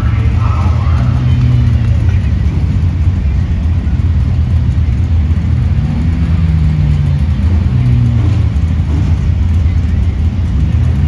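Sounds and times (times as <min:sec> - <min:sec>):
race car engines idling: 0:00.0 - 0:11.0.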